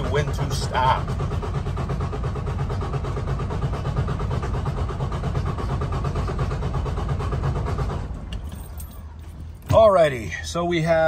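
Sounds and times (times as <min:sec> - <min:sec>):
diesel engine cranking on starter: 0:00.0 - 0:10.9.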